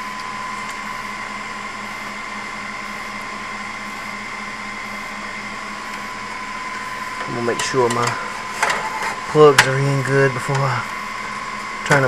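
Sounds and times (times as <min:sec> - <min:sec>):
machine hum and hiss: 0:00.0 - 0:12.0
thin high whines: 0:00.0 - 0:12.0.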